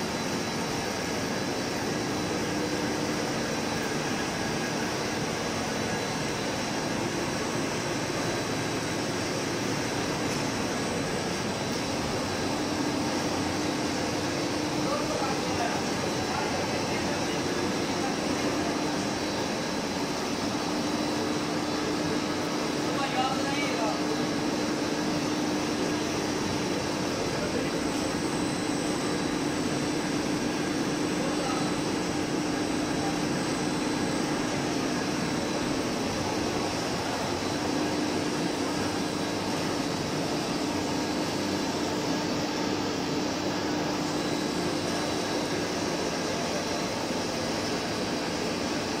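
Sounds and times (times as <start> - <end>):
motors and fans humming: 0.0 - 49.0.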